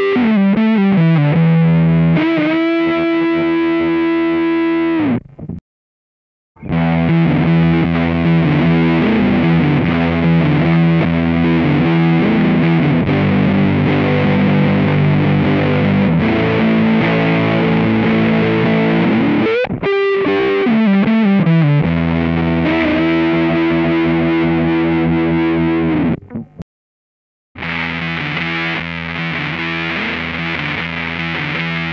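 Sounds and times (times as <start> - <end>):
fuzz electric guitar chords: 0.0 - 5.6, 6.6 - 26.6, 27.6 - 31.9
guitar sliding notes: 0.0 - 5.6, 6.6 - 26.6, 27.6 - 31.9.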